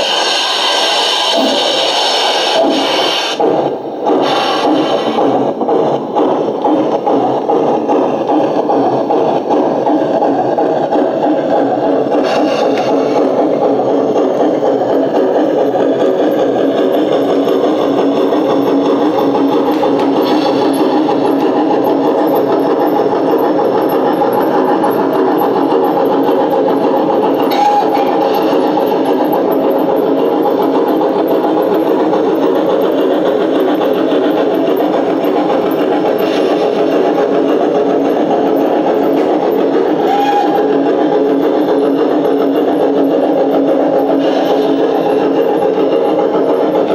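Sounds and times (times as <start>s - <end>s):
model train running: 0.0s - 46.9s.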